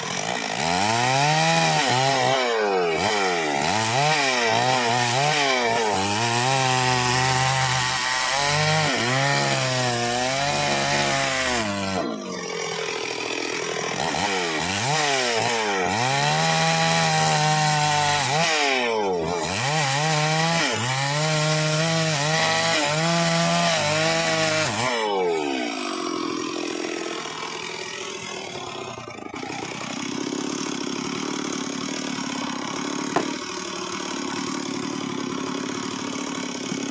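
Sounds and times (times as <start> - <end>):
chainsaw cutting log: 0.0 - 36.9.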